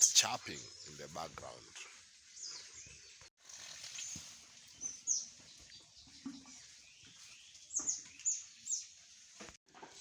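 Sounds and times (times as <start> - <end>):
birds chirping: 0.0 - 3.3, 4.0 - 10.0.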